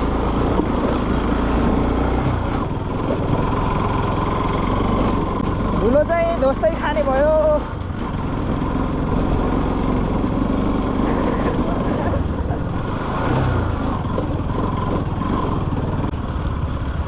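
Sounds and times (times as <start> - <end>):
motorcycle engine drone: 0.0 - 17.0.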